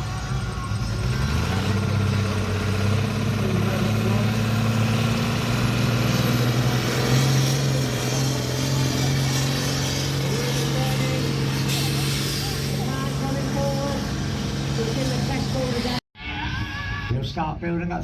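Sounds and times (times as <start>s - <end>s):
tractor engine revving: 0.0s - 16.0s.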